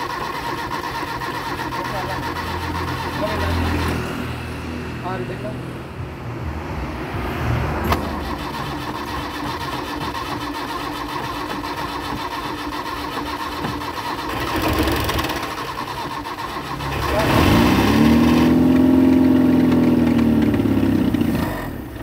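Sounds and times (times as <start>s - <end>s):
starter motor cranking engine: 0.0s - 4.3s, 7.9s - 22.0s.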